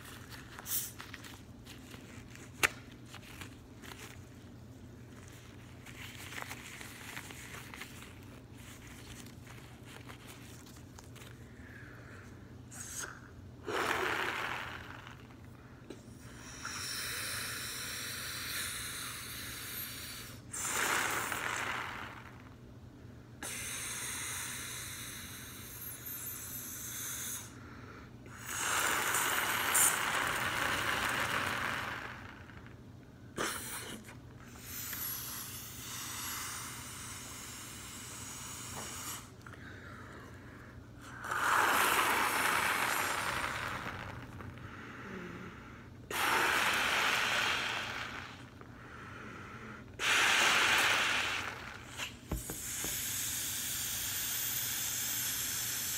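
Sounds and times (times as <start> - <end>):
breath blowing up balloon: 0.0 - 22.6, 23.4 - 27.7, 28.3 - 55.9.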